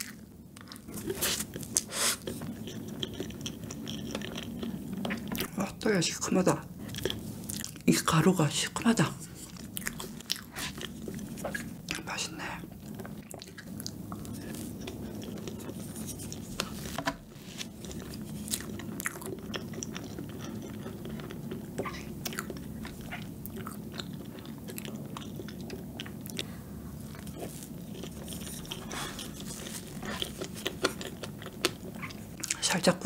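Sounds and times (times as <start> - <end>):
close chewing with mouth clicks: 0.0 - 5.7, 6.6 - 7.9, 8.9 - 32.9.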